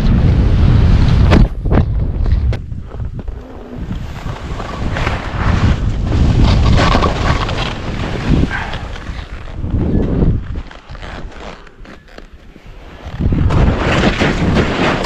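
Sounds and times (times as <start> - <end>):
wind rushing over microphone: 0.0 - 11.5, 12.7 - 15.0
skis running through snow: 2.2 - 15.0.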